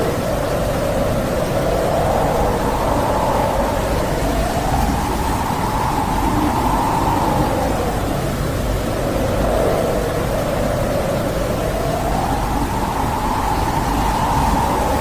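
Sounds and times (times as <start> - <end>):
wind howling: 0.0 - 15.0.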